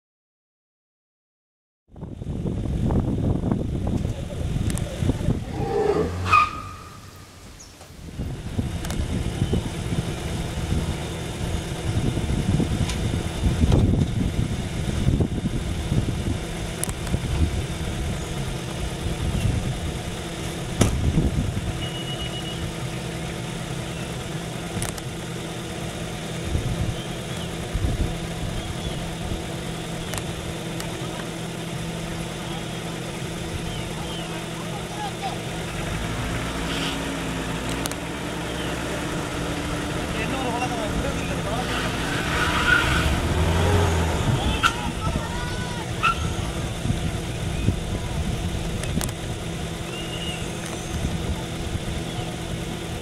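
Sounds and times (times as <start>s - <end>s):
van engine idling: 2.0s - 53.0s.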